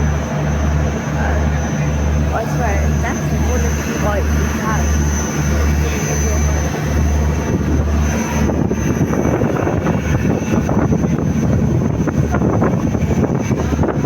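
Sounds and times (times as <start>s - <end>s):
boat engine droning: 0.0s - 14.0s
wind rushing over microphone: 0.0s - 14.0s.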